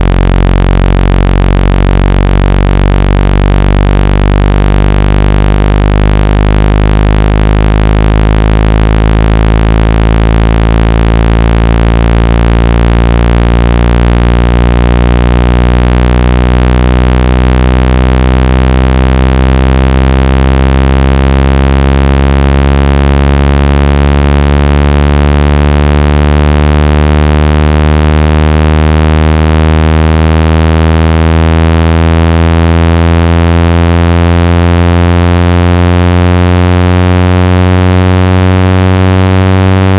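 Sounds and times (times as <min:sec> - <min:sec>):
electronic low buzz climbing in pitch: 0:00.0 - 0:39.9.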